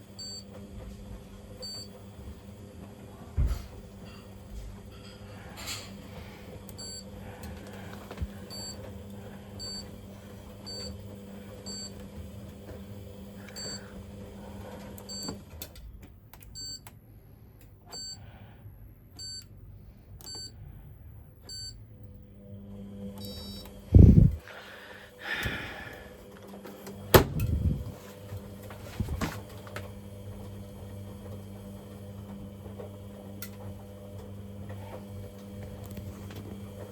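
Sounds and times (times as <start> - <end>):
tumble dryer motor hum: 0.0 - 36.9.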